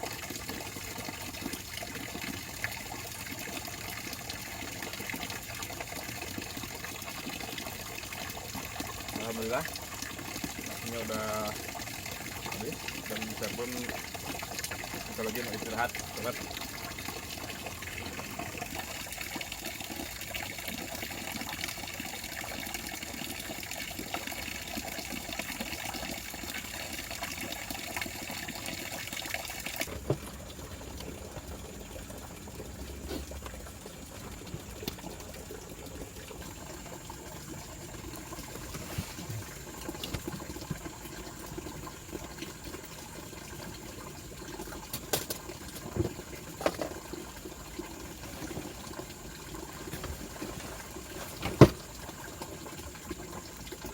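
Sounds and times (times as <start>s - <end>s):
flowing water rushing: 0.0s - 53.9s.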